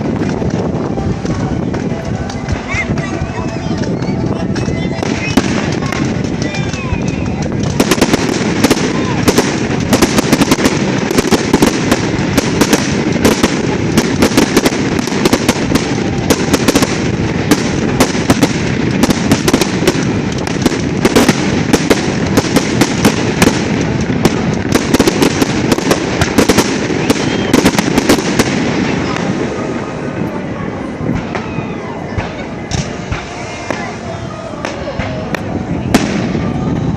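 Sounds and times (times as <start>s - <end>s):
fireworks bangs and crackles: 0.0s - 36.9s
fireworks rumble: 0.0s - 36.9s.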